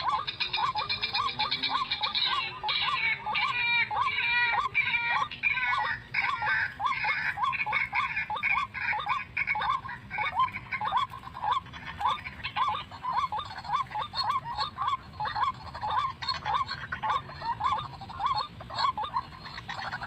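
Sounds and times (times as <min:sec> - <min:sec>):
waterhen calling: 0:00.0 - 0:20.0.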